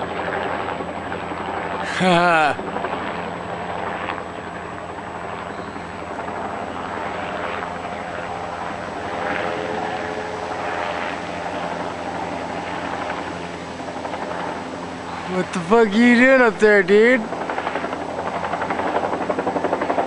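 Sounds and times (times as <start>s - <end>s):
helicopter rotor and engine drone: 0.0s - 20.0s.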